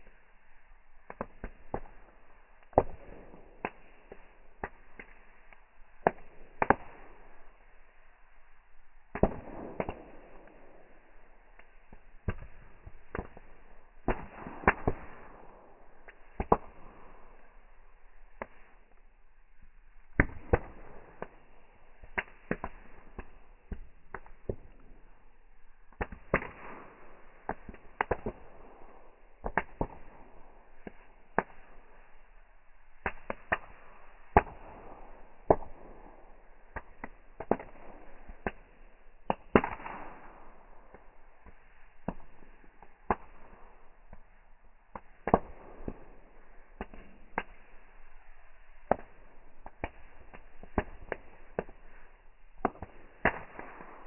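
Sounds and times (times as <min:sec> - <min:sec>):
fireworks bangs and pops: 0:00.0 - 0:54.0.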